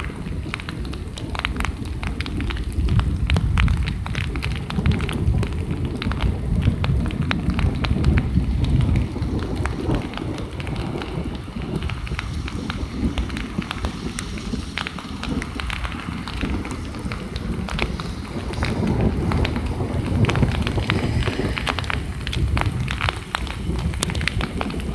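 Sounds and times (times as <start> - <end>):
heavy rain falling: 0.0 - 24.9
low rumble: 0.0 - 24.9
sharp ticks of raindrops: 0.0 - 24.9.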